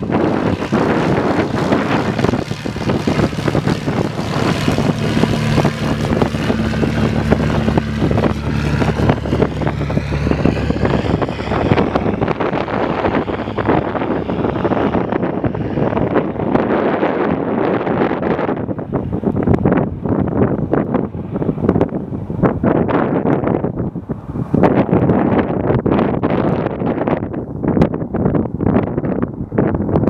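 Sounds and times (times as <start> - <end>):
propeller plane engine drone: 0.0 - 30.0
wind buffeting microphone: 0.0 - 30.0.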